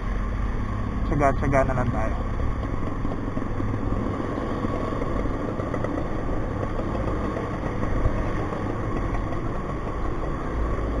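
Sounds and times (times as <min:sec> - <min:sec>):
road noise: 0:00.0 - 0:11.0
surrounding vehicle engines: 0:00.0 - 0:11.0
scooter engine running: 0:02.1 - 0:11.0.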